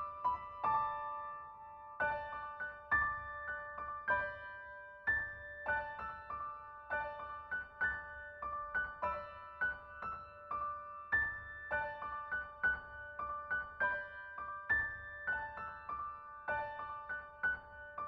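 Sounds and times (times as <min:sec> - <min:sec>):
gentle piano notes: 0:00.0 - 0:18.0.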